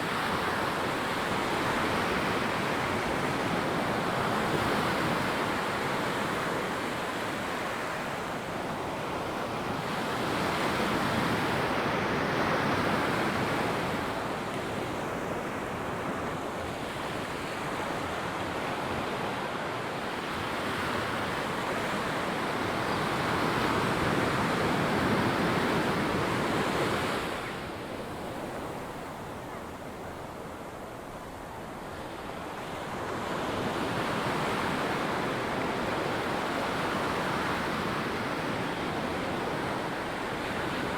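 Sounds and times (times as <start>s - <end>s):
ocean surf breaking on a beach: 0.0s - 40.9s.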